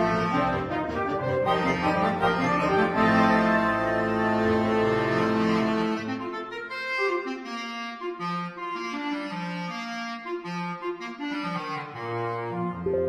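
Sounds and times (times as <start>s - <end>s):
instrumental melody of held notes: 0.0s - 13.0s.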